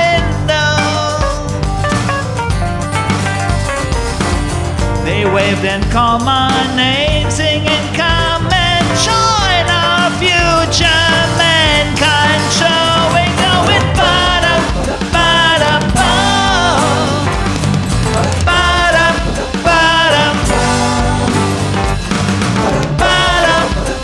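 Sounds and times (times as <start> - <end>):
live band playing soul-rock: 0.0 - 24.0
sliding melodic lead line: 0.3 - 24.0.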